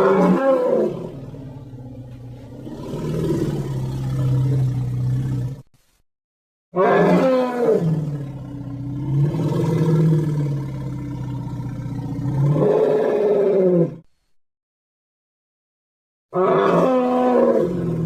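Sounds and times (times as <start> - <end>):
deep creature roar: 0.0 - 5.6, 6.8 - 14.0, 16.4 - 18.0.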